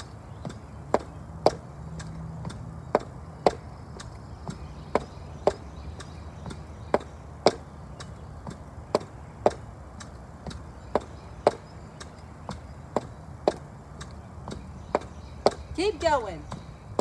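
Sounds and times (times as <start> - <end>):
high heels on brick steps: 0.0 - 17.0.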